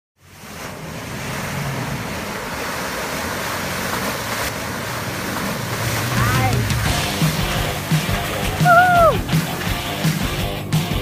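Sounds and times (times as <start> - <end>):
steady rushing noise: 0.2 - 11.0
suv engine running: 0.3 - 11.0.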